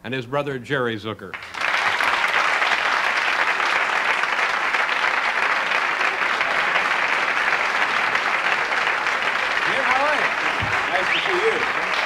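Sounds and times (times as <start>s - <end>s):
audience applauding: 1.3s - 12.0s.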